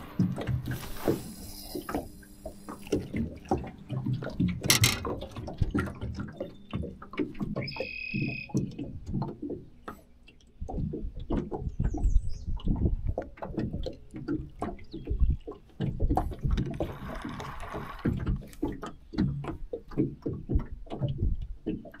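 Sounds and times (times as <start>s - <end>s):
waves slapping boat hull: 0.0s - 22.0s.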